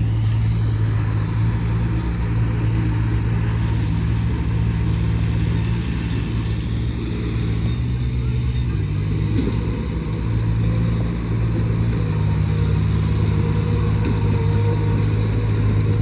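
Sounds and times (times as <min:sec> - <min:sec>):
heavy diesel engine drone: 0:00.0 - 0:16.0.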